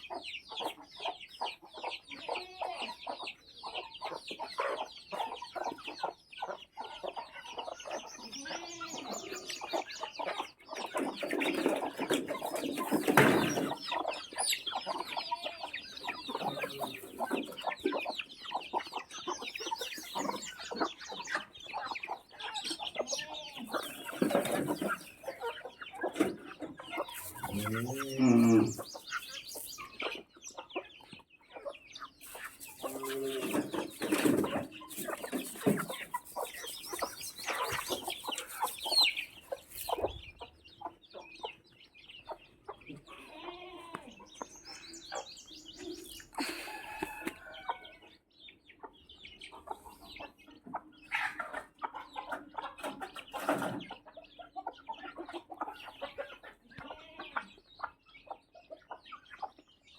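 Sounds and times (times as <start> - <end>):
chickens squawking: 0.0 - 59.6
chickens clucking: 0.0 - 59.9.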